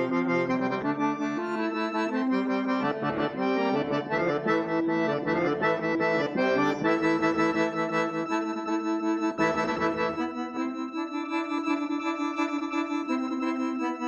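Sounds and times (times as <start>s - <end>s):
button accordion melody: 0.0s - 14.0s.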